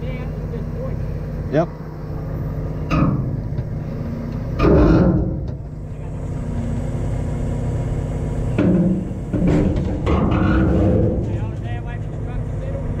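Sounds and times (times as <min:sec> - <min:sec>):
tow truck engine running: 0:00.0 - 0:13.0.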